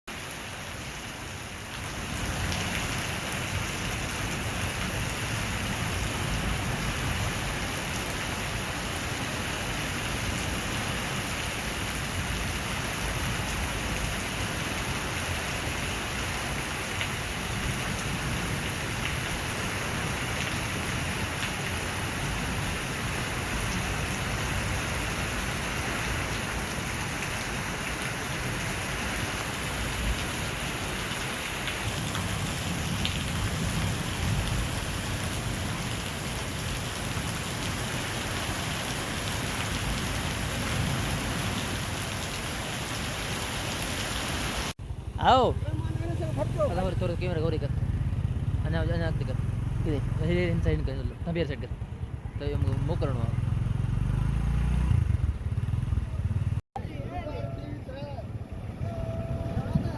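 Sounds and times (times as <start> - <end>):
heavy rain falling: 0.1 - 53.3.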